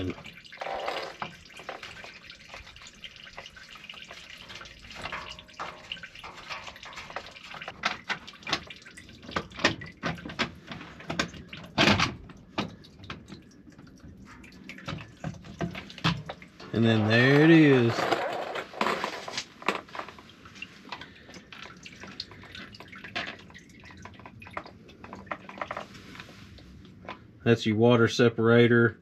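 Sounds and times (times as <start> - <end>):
fuel dripping into pan: 0.0 - 17.8, 18.5 - 27.4.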